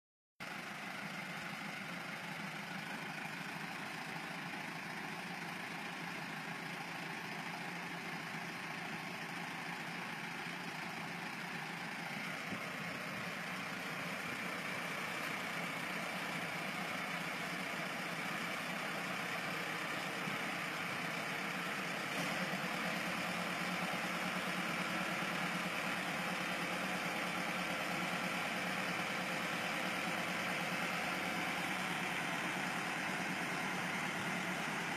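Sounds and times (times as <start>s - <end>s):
tractor diesel engine idling: 0.4s - 34.9s.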